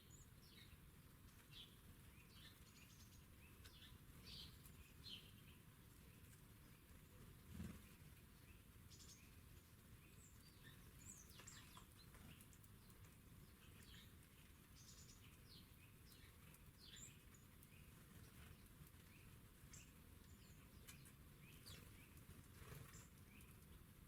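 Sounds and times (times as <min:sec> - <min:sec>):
songbird chirps and calls: 0:00.0 - 0:24.0.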